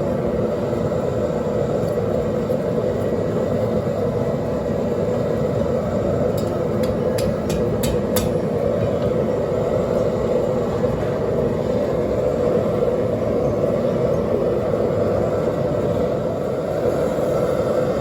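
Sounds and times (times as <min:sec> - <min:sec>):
forge burner roaring: 0:00.0 - 0:18.0.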